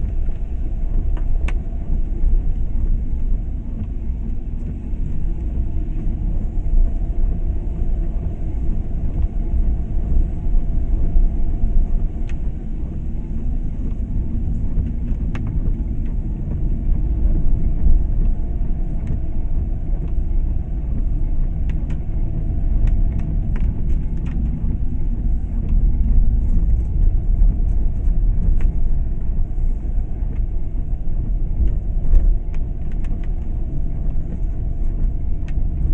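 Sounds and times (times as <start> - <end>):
car road and engine rumble: 0.0 - 35.9.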